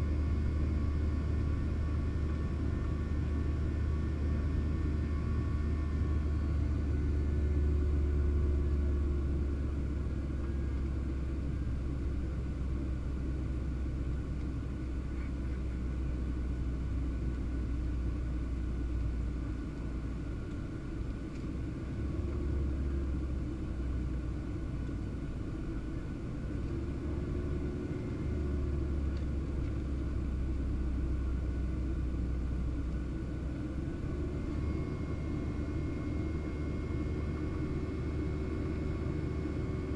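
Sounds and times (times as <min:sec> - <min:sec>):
faint steady hums: 0:00.0 - 0:39.9
jet engines rumbling in flight: 0:00.0 - 0:39.9.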